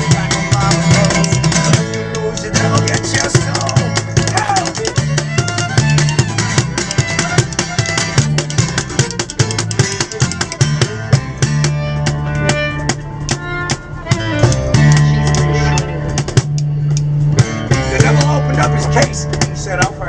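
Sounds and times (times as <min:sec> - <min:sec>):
driving drum kit: 0:00.0 - 0:20.0
live band playing: 0:00.0 - 0:20.0.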